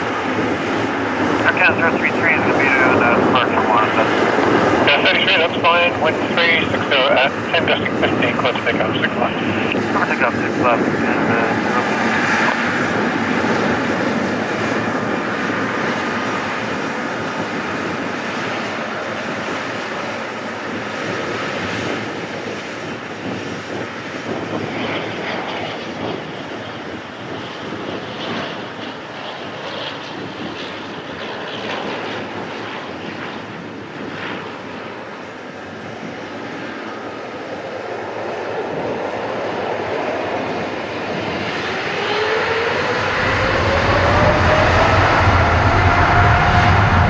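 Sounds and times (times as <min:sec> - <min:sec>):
jet engines taxiing: 0:00.0 - 0:47.0.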